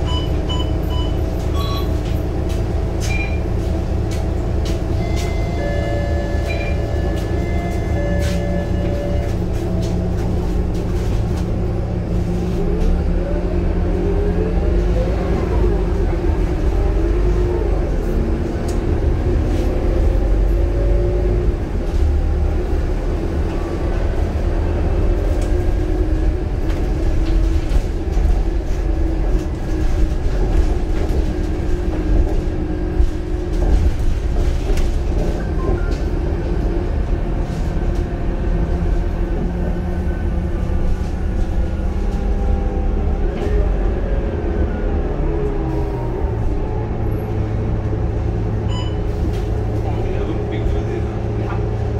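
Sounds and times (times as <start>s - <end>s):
bus engine rumbling: 0.0s - 51.9s.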